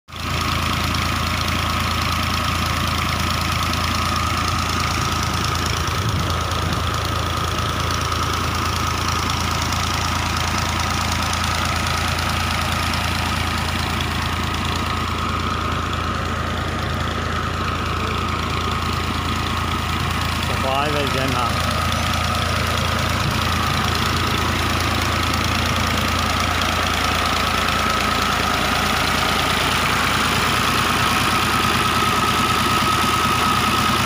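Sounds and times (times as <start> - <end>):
diesel tractor engine running: 0.1 - 34.0.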